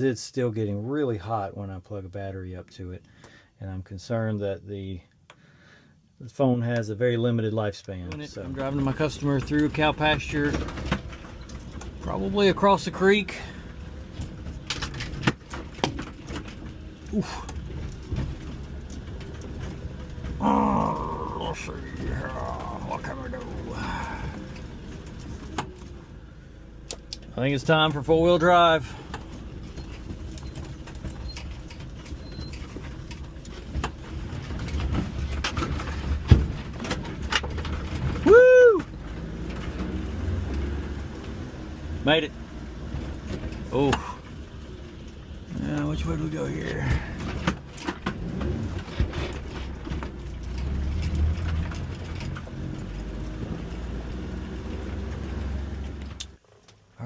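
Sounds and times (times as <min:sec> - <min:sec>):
knocks and rattles from bumps: 0:08.0 - 0:26.2, 0:26.9 - 0:56.7
small van engine running: 0:08.2 - 0:56.4.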